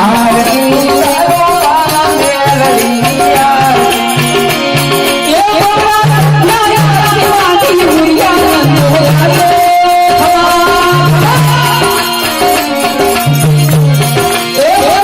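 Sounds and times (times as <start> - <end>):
folk percussion beat: 0.0 - 15.0
harmonium melody: 0.0 - 15.0.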